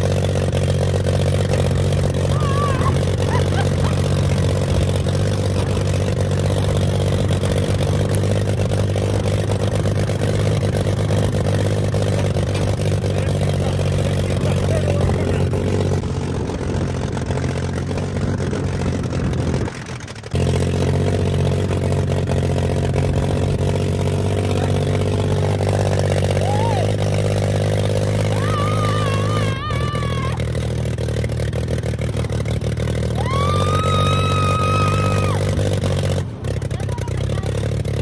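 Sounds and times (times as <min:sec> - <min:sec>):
motorbike engine running: 0:00.0 - 0:38.0.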